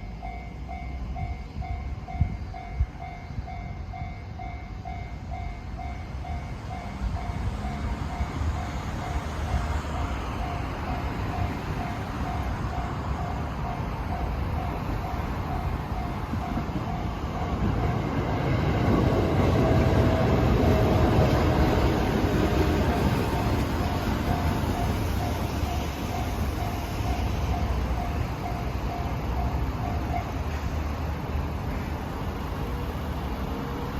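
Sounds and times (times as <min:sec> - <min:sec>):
level-crossing alarm dinging: 0:00.0 - 0:30.6
train rumble: 0:00.0 - 0:33.9.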